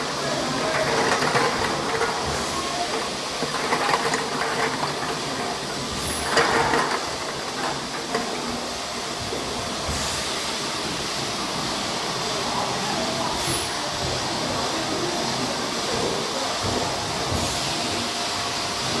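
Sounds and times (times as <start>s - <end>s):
bottling machine clatter and hiss: 0.0s - 19.0s.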